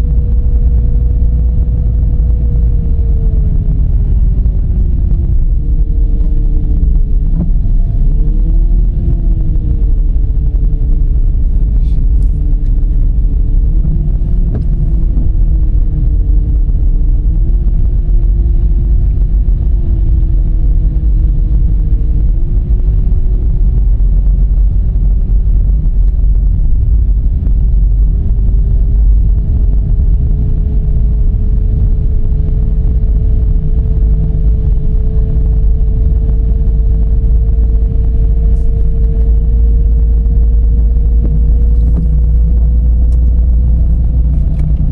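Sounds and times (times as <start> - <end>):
car driving on road rumble: 0.0 - 44.9
engine drone climbing in pitch: 0.0 - 44.9.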